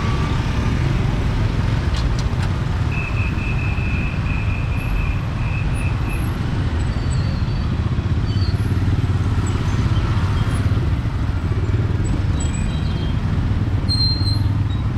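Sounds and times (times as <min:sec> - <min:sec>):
city street traffic hum: 0:00.0 - 0:14.9.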